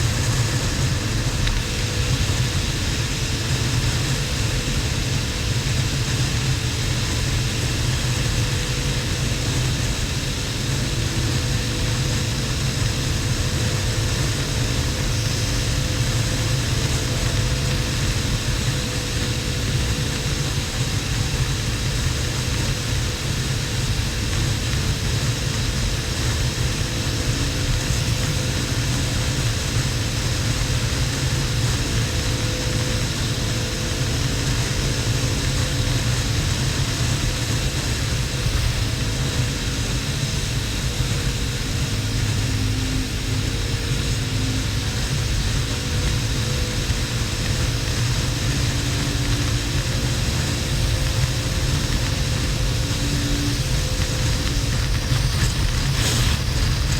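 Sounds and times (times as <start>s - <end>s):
motorcycle engine cruising: 0.0s - 56.9s
wind and road noise: 0.0s - 56.9s.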